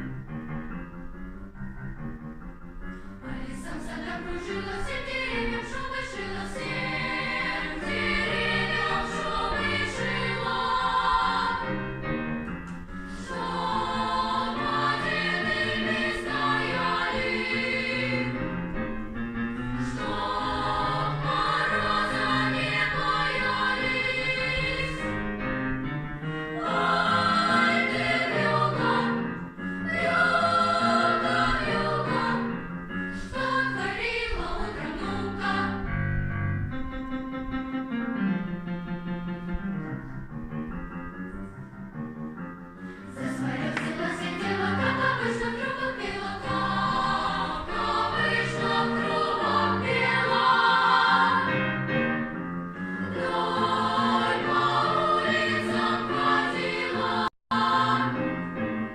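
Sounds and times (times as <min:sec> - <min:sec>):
choir singing: 0:03.2 - 0:36.2, 0:43.0 - 0:58.8.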